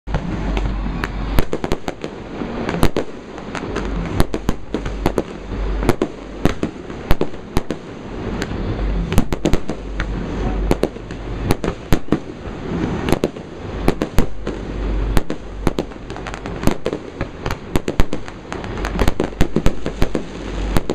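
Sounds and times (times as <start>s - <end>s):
continuous rumble: 0.1s - 20.9s
firework bursts and bangs: 0.1s - 20.9s.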